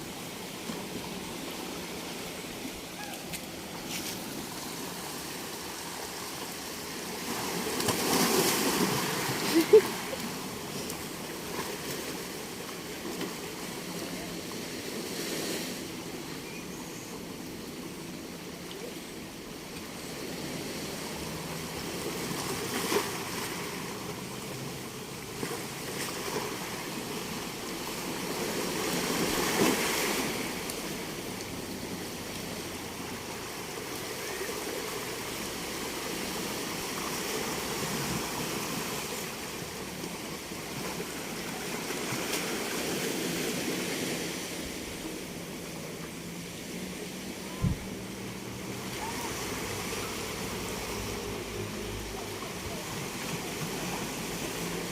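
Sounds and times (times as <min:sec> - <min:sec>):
sea waves breaking: 0:00.0 - 0:54.9.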